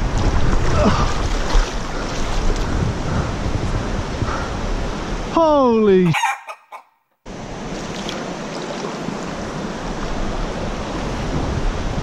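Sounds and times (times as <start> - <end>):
wind noise on microphone: 0.0 - 5.4, 7.3 - 12.0.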